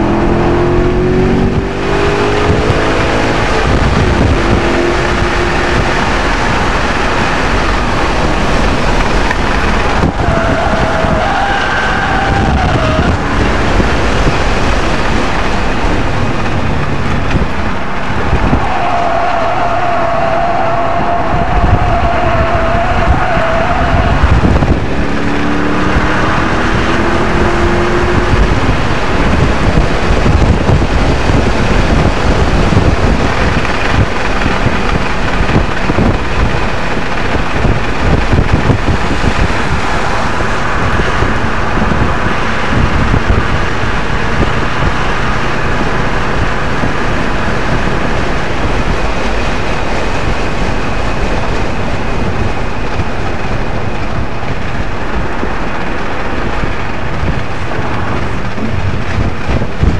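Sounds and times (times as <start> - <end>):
car engine accelerating: 0.0 - 59.9
wind noise: 0.0 - 59.9.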